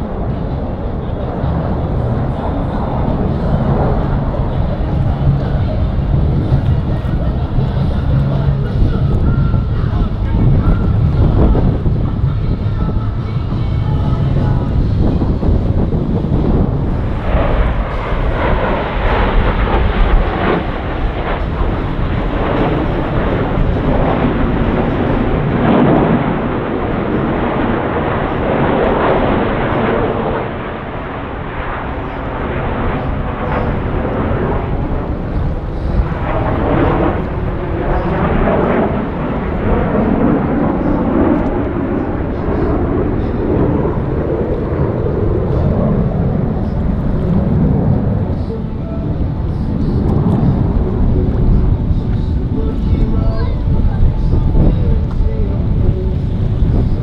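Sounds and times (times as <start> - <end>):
jet engines passing: 0.0 - 57.0.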